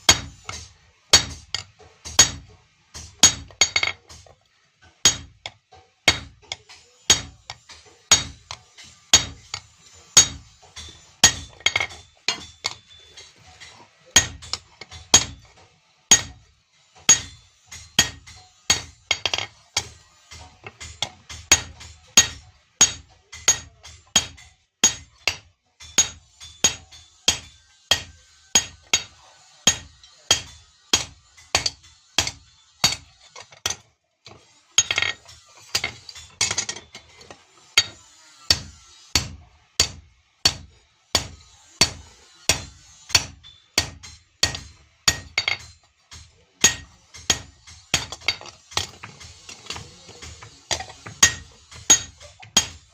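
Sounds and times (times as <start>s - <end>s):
hammer striking anvil: 0.0s - 4.3s, 5.0s - 33.8s, 34.8s - 52.9s.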